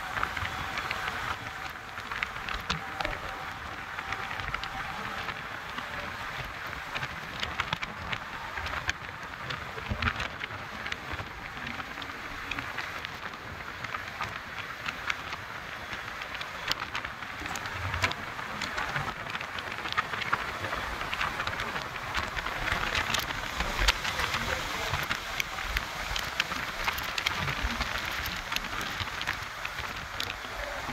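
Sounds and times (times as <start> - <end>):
small crackles: 0.0 - 30.9
wind and tyre road noise: 0.0 - 30.9.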